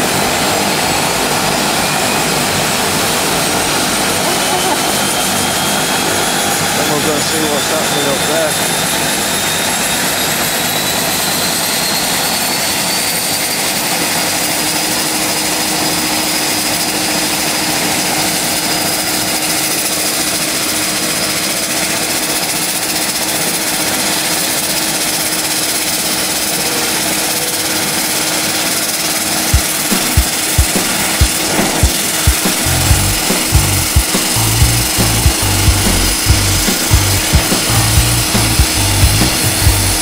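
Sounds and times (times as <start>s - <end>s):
aircraft engines in flight: 0.0s - 32.3s.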